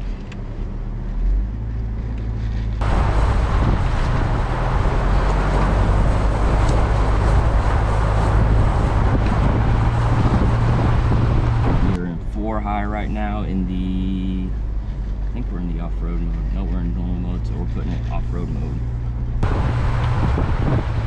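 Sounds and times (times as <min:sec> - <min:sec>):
rushing noise from tyres and wind: 0:00.0 - 0:12.0, 0:12.6 - 0:21.0
low engine hum: 0:00.0 - 0:21.0.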